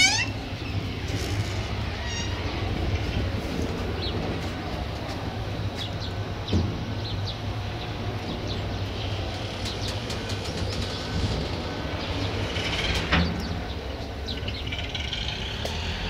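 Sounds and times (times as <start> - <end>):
birds chirping: 0.0 - 16.0
train rumbling: 0.0 - 16.0.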